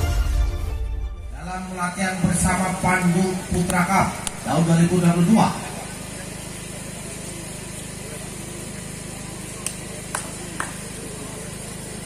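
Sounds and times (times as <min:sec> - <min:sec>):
steady low hum: 0:01.3 - 0:12.0
crowd murmur: 0:01.4 - 0:12.0.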